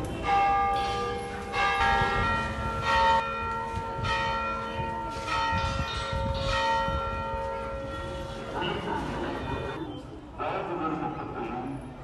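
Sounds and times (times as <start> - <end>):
church bells ringing: 0.0 - 9.8.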